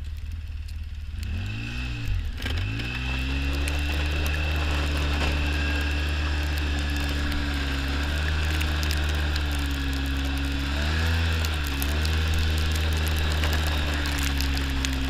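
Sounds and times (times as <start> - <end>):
vehicle engine in deep snow: 0.0 - 15.0.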